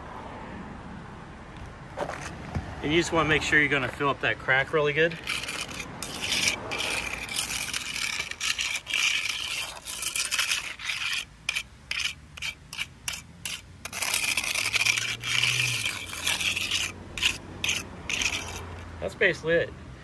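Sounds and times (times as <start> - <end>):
trowel scraping asphalt: 1.6 - 19.4.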